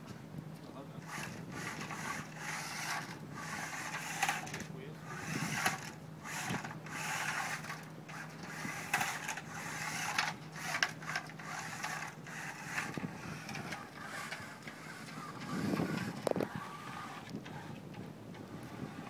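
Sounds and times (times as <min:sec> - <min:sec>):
small electric motors whirring: 0:01.0 - 0:19.0
wheels scrubbing on concrete: 0:01.0 - 0:19.0.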